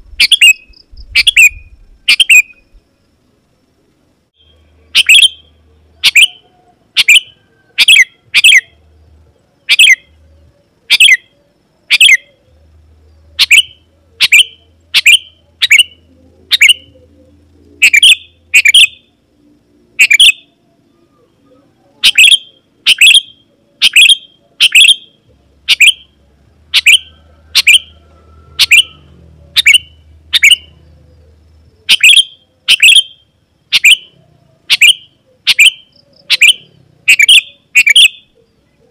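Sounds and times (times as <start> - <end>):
bird chirping: 0.0 - 3.7, 4.3 - 38.9.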